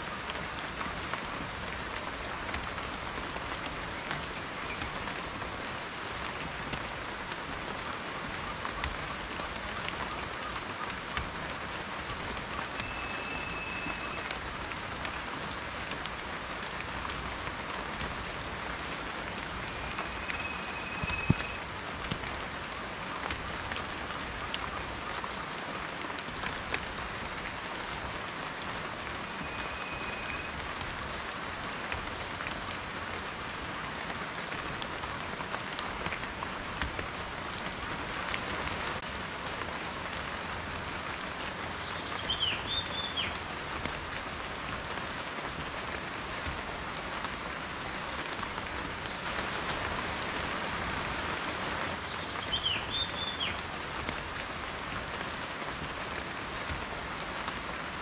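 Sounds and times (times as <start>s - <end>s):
rain falling: 0.0s - 58.0s
raindrops ticking on a surface: 0.0s - 58.0s.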